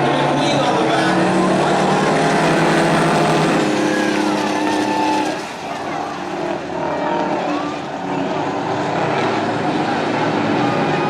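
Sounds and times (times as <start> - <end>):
racing truck engines passing: 0.0 - 11.0.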